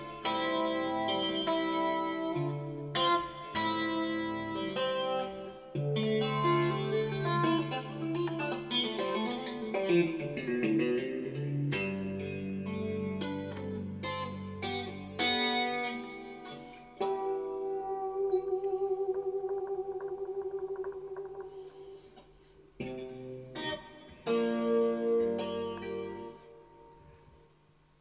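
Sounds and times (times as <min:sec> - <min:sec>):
clean electric guitar tapping: 0:00.0 - 0:27.0.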